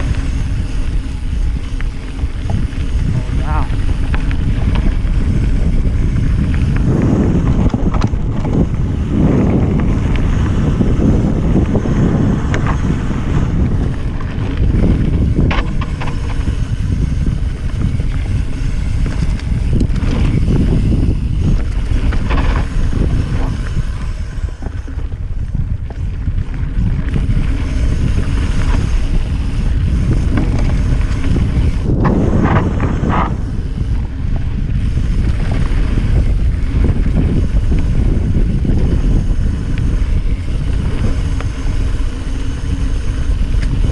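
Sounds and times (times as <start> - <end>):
bike rattling over bumps: 0.0 - 43.9
bike tyres on dirt: 0.0 - 43.9
wind buffeting microphone: 0.0 - 43.9.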